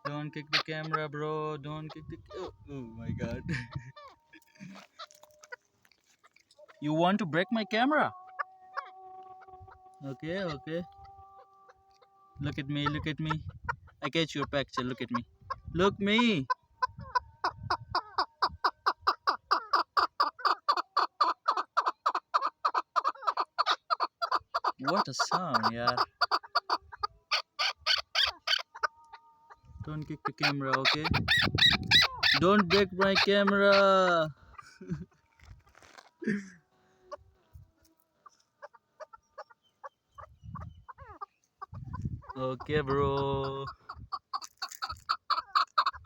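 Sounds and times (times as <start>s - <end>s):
partridge clucking call: 0.0s - 36.3s, 38.2s - 46.0s.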